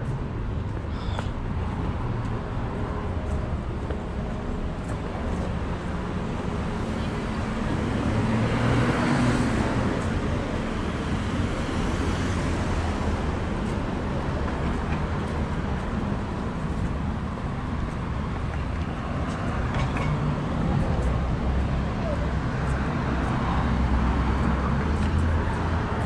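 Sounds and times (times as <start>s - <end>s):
traffic engine hum: 0.0s - 26.0s.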